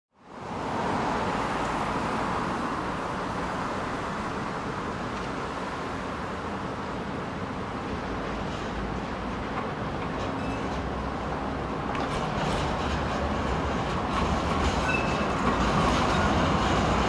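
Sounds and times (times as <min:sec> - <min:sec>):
road traffic noise: 0:00.1 - 0:17.0
train rumble: 0:01.3 - 0:17.0.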